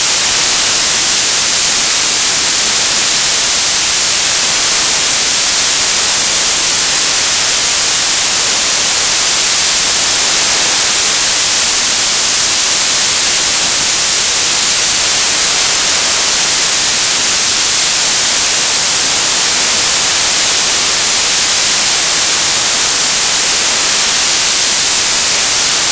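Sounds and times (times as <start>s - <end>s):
television static hiss: 0.0s - 25.9s.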